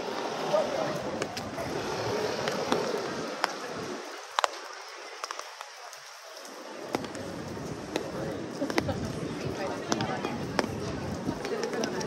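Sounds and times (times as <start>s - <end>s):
rain hiss on wet street: 0.0s - 12.0s
sharp rain ticks: 0.0s - 12.0s.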